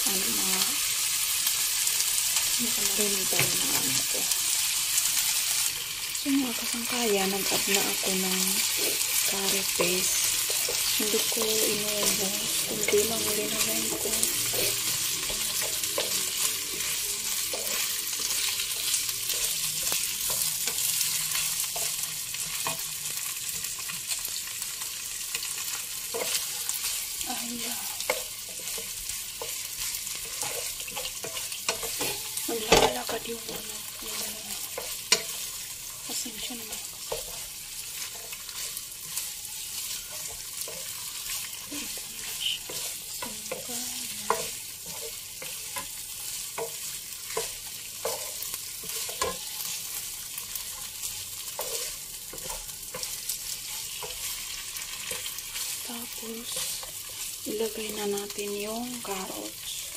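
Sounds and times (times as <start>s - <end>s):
chicken wings sizzling in oil: 0.0s - 59.9s.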